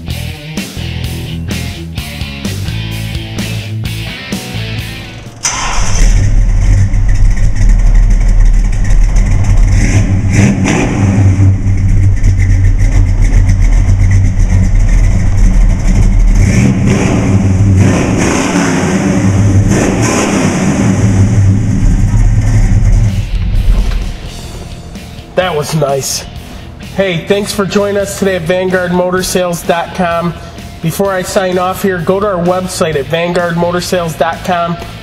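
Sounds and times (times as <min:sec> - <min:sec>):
engine exhaust rumbling and revving: 0:00.0 - 0:35.0.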